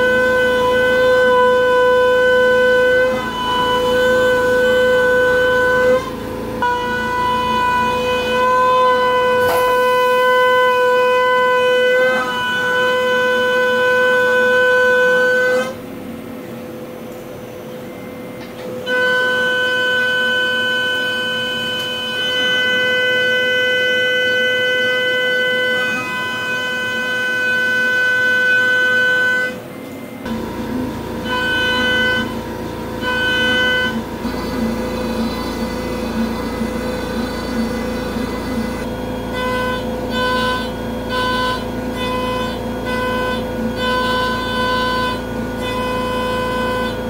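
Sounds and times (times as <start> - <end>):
machine hum: 0.0 - 47.0
mill spindle high-pitched whine: 0.0 - 47.0.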